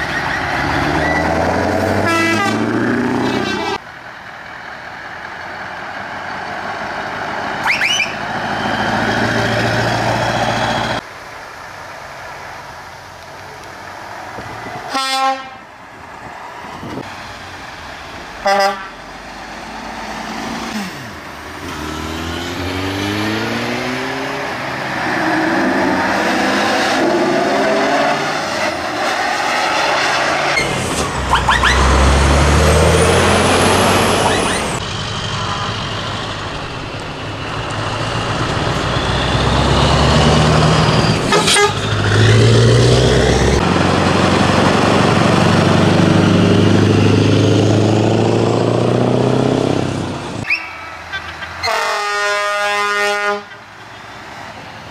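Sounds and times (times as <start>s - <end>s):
diesel trucks driving past: 0.0s - 54.9s.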